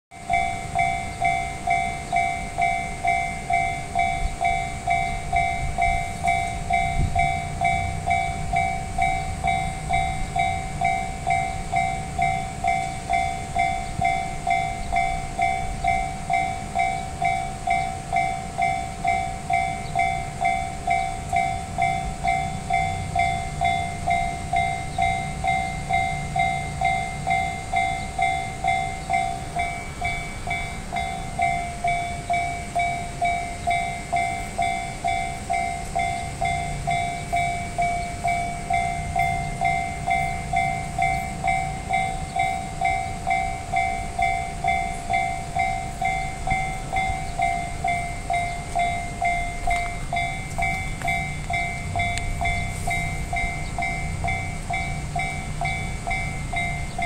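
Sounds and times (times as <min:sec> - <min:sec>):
level crossing warning bell: 0:00.1 - 0:57.0.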